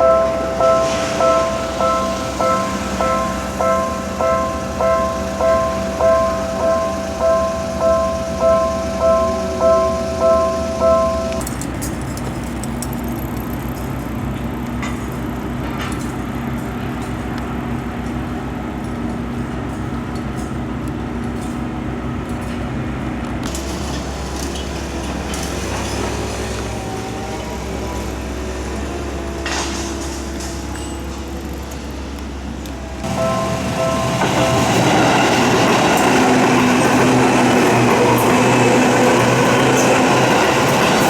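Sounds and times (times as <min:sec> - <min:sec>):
vehicle engine humming: 0:00.0 - 0:19.7, 0:23.4 - 0:41.0.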